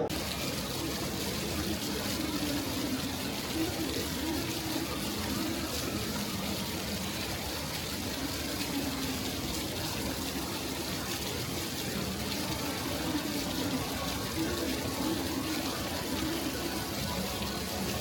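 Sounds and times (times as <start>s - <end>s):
faint murmur of voices: 0.0s - 18.0s
running splashing water: 0.0s - 18.0s.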